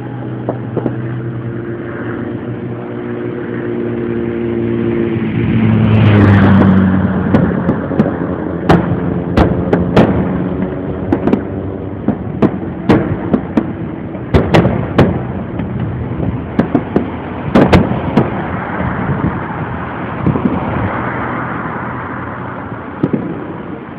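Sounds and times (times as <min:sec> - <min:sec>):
fireworks bangs: 0:00.0 - 0:03.3, 0:06.0 - 0:23.9
steady rumble: 0:00.0 - 0:23.9.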